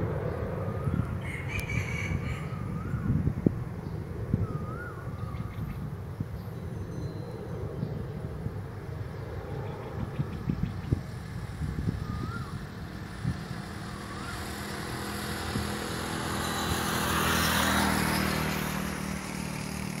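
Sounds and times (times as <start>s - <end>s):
engine rumble and rushing noise: 0.0s - 20.0s.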